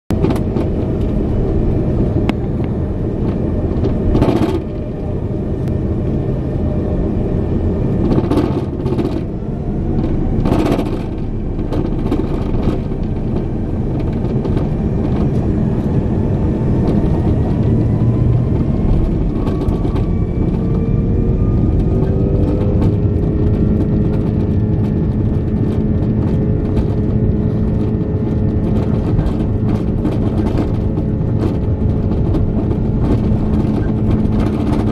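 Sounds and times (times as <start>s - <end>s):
faint engine whine rising: 0.1s - 34.9s
jet engines rumbling: 0.1s - 34.9s.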